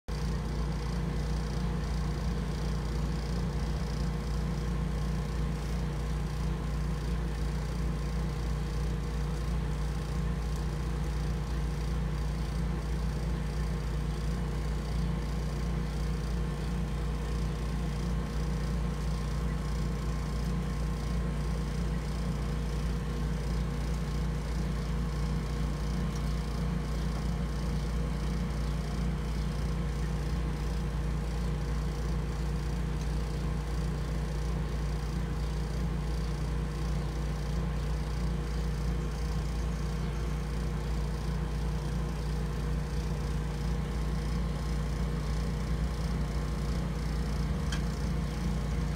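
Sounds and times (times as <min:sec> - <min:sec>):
low machine hum: 0:00.1 - 0:48.9.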